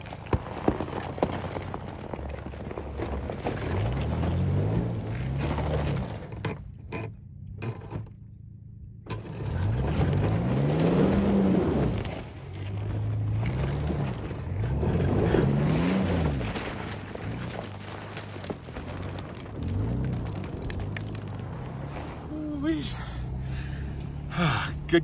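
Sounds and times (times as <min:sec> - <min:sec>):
tyres churning through snow: 0:00.0 - 0:25.0
pickup engine revving: 0:03.4 - 0:08.2, 0:09.0 - 0:25.0.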